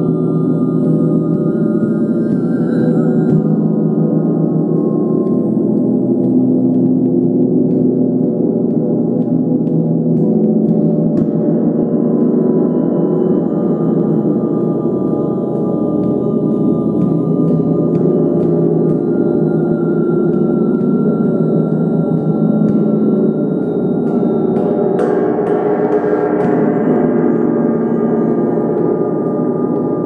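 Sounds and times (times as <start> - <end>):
gong played with felt mallet: 0.0 - 30.0.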